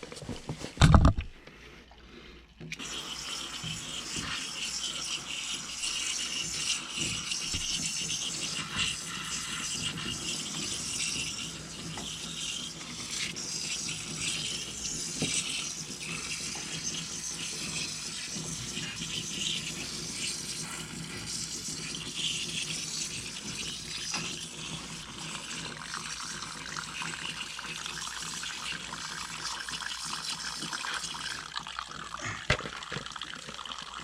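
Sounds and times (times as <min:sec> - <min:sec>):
water spraying on a coil: 0:02.8 - 0:31.5.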